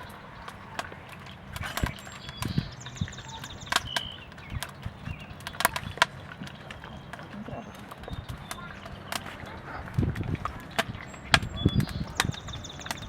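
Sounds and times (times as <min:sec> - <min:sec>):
sharp clicks and light knocks: 0:00.0 - 0:13.0.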